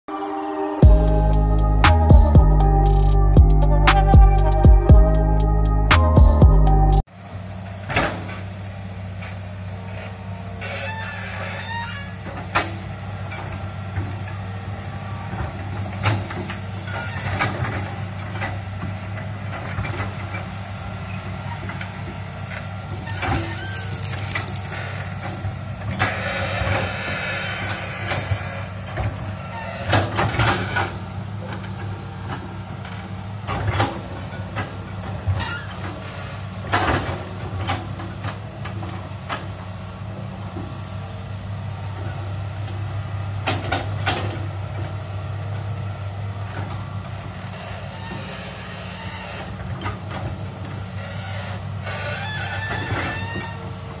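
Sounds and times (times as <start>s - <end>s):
excavator diesel engine running: 0.8s - 54.0s.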